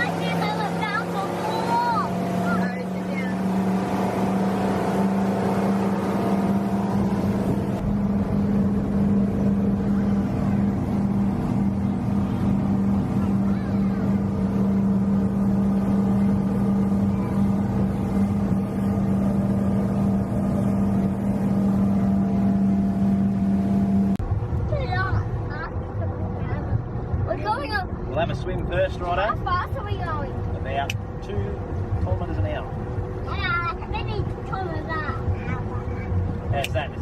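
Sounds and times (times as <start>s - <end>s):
rushing water and air: 0.0s - 37.0s
speedboat engine droning: 0.0s - 37.0s.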